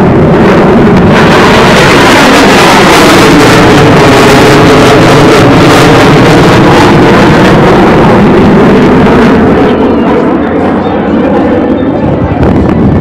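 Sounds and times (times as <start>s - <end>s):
jet roar overhead: 0.0s - 13.0s.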